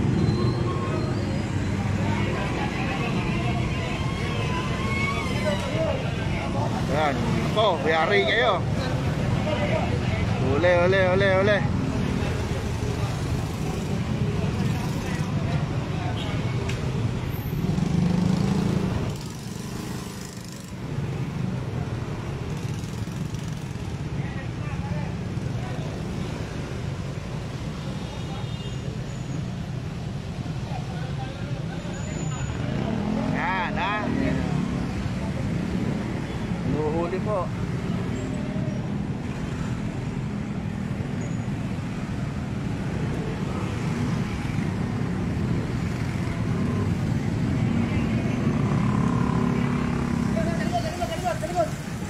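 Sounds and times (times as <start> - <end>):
road traffic rumble: 0.0 - 52.0
vehicles passing: 0.0 - 52.0.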